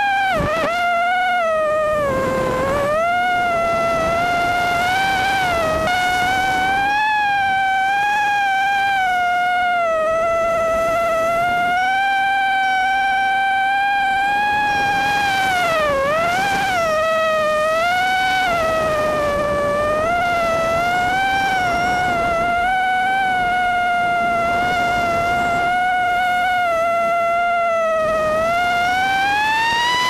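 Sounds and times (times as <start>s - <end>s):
drone motors and propellers whining: 0.0s - 30.0s.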